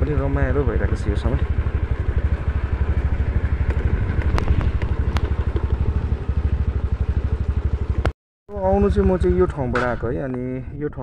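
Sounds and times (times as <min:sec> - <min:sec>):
motor scooter engine pulsing: 0:00.0 - 0:10.1.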